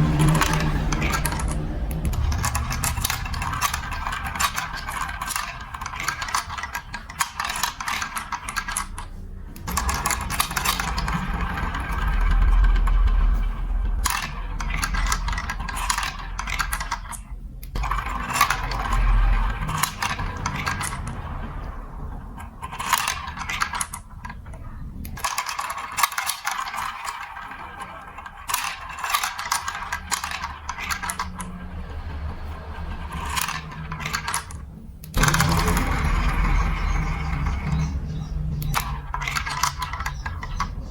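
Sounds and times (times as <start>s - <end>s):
marbles rattling through plastic track: 0.0s - 40.9s.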